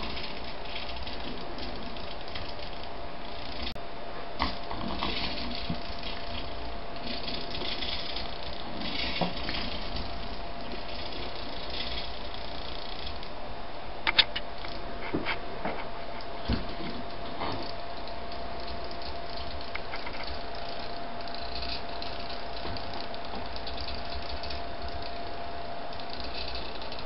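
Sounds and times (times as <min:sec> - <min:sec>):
faint steady whine: 0:00.0 - 0:27.0.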